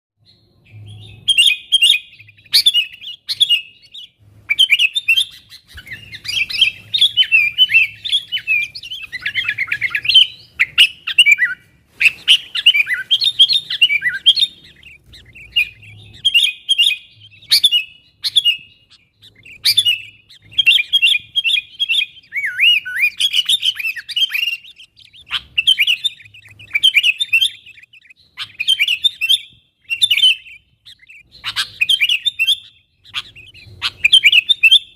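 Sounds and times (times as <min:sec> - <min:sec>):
bulbul chattering: 0:00.7 - 0:34.9.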